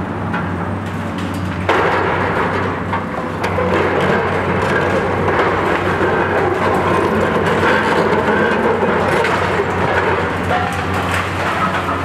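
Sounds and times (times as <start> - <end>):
concrete and steel crunching: 1.1 - 12.0.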